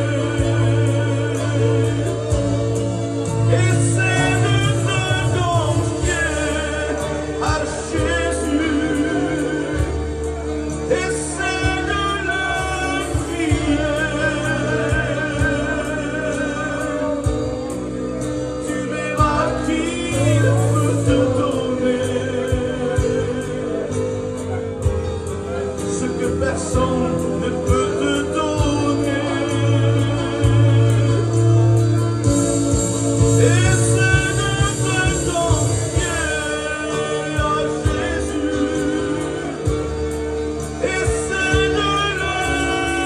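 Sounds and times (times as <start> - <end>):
instrumental accompaniment with beat: 0.0 - 43.0
man singing a hymn with vibrato: 0.0 - 43.0.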